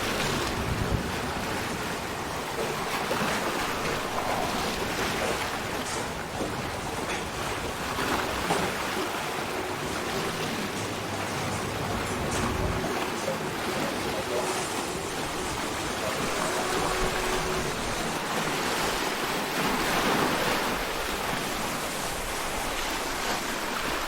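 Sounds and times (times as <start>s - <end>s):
ocean water wash: 0.0s - 24.0s.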